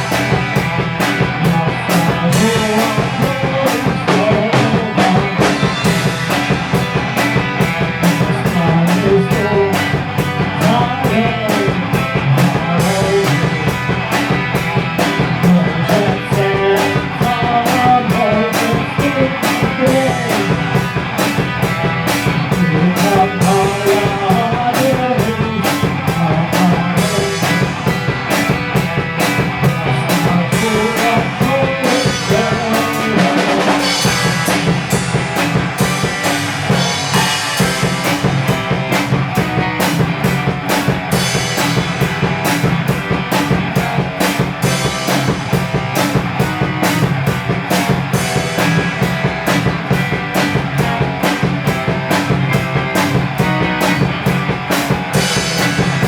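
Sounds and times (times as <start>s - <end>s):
drum kit beat: 0.0s - 56.0s
rock band playing: 0.0s - 56.0s.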